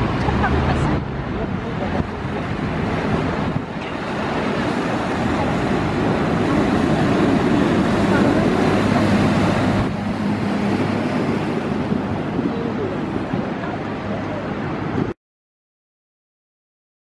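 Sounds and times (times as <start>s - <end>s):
engine and traffic noise: 0.0s - 15.1s.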